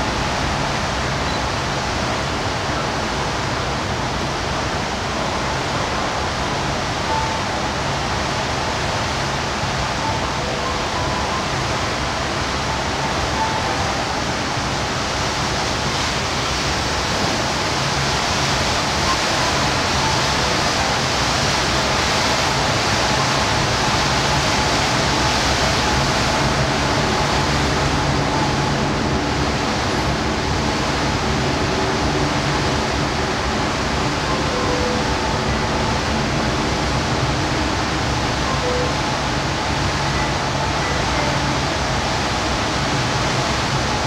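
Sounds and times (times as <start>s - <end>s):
boat engine hum: 0.0s - 44.0s
water rushing: 0.0s - 44.0s.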